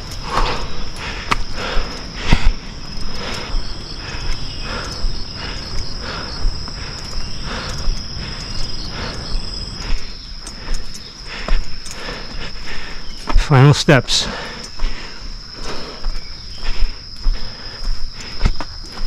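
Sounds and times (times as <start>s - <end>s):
insects trilling: 0.0s - 19.0s
soft rhythmic footsteps: 0.0s - 19.0s.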